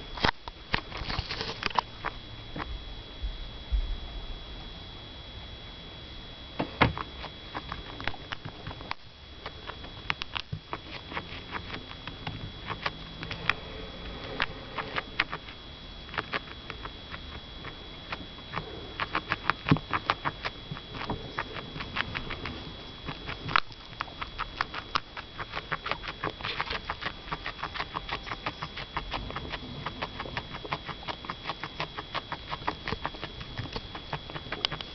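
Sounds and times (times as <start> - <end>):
guinea pig chewing crunchily: 0.0 - 2.8, 6.7 - 34.9.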